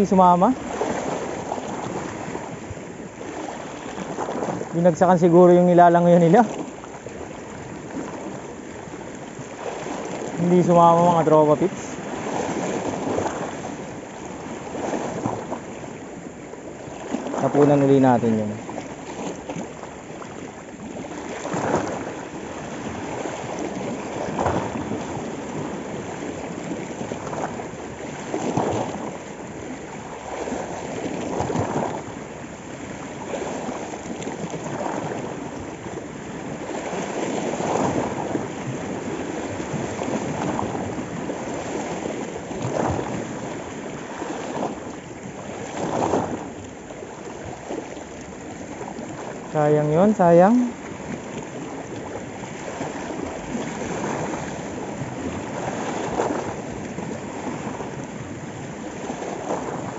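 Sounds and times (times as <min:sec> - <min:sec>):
waves splashing against rocks: 0:00.0 - 0:59.9.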